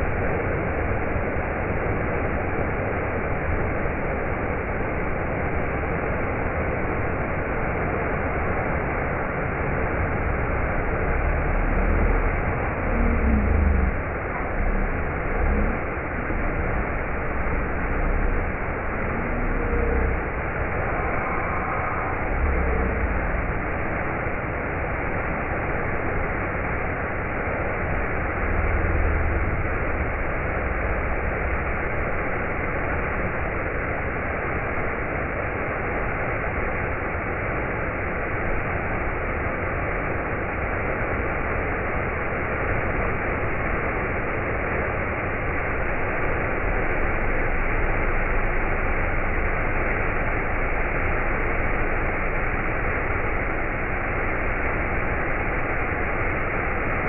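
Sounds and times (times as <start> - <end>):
low rumble: 0.0 - 33.7, 43.9 - 57.0
steady hiss: 0.0 - 57.0.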